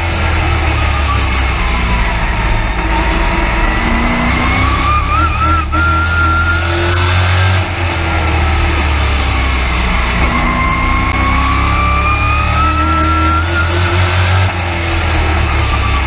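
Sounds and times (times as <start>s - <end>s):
high drivetrain whine: 0.0s - 16.0s
truck engine rumble: 0.0s - 16.0s.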